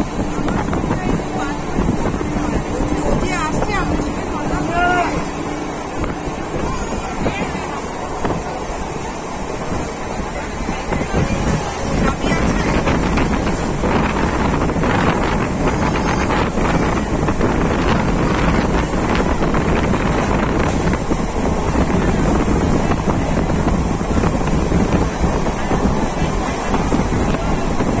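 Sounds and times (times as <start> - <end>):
train running noise: 0.0 - 28.0
wind buffeting microphone: 0.0 - 28.0.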